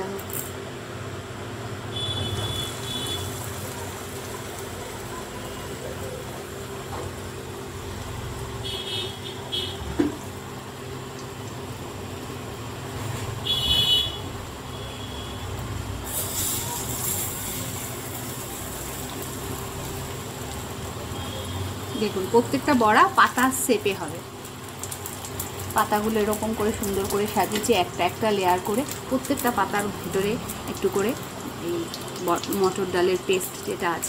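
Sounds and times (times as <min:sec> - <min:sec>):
food sizzling in hot oil: 0:00.8 - 0:34.0.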